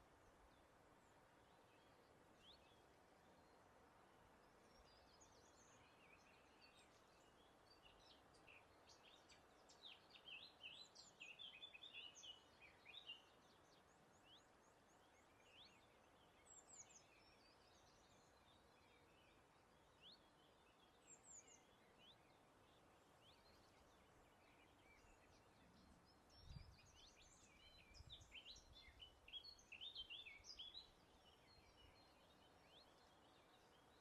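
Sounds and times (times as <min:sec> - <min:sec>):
faint birdsong chirps and trills: 0:00.0 - 0:34.0.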